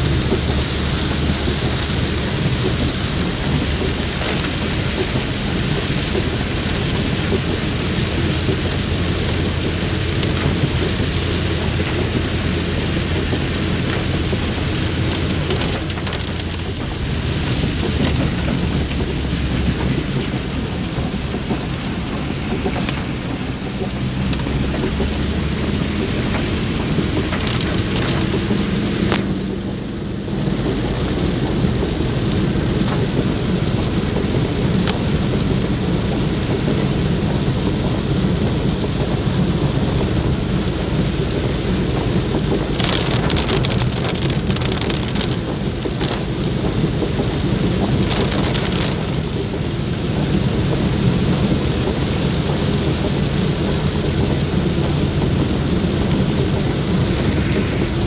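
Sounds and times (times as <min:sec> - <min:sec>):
car rumble on wet road: 0:00.0 - 0:58.0
heavy rain on car roof: 0:00.0 - 0:58.0.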